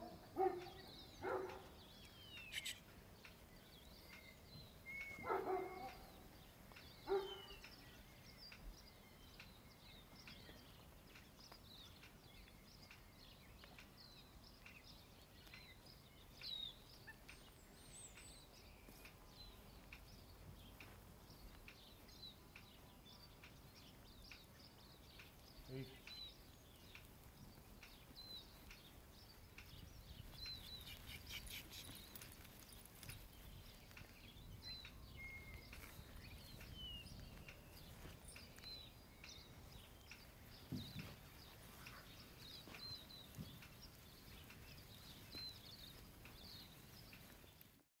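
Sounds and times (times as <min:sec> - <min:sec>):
faint small bird chirps: 0:00.4 - 0:06.2, 0:06.8 - 0:47.7.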